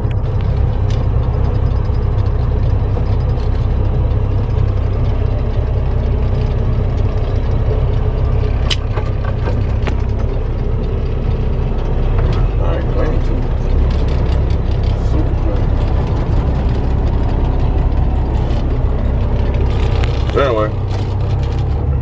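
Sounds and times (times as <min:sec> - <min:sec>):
clicks and rattles: 0:00.0 - 0:22.0
diesel engine drone: 0:00.0 - 0:22.0
road noise: 0:00.0 - 0:22.0.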